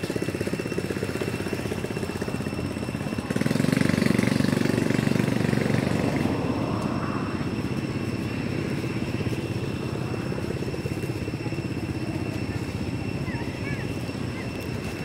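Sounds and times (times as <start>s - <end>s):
engine low throb: 0.0s - 15.0s.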